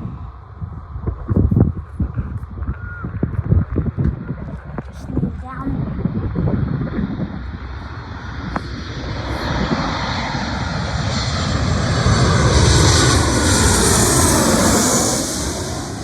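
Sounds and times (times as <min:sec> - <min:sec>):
jet airliner passing low: 0:00.0 - 0:16.0.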